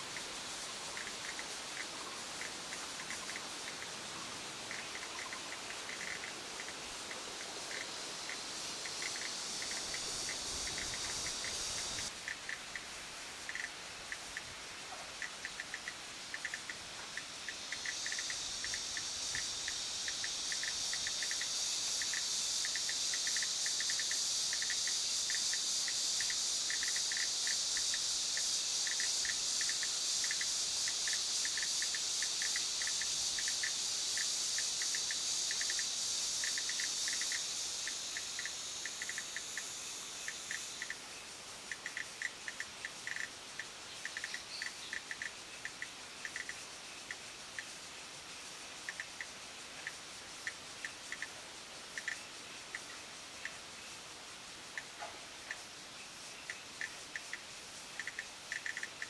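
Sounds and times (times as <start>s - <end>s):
cicada buzzing: 0.0s - 59.0s.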